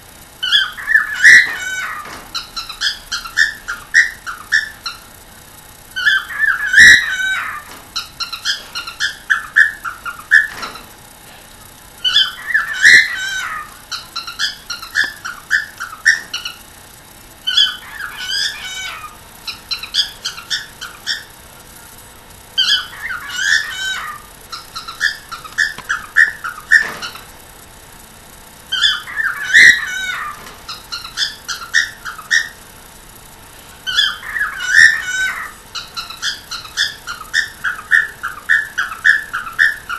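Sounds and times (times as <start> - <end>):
cockatiel chattering and warbling: 0.4 - 5.1, 5.9 - 10.9, 12.0 - 16.7, 17.4 - 21.4, 22.6 - 27.4, 28.7 - 32.7, 33.8 - 39.9.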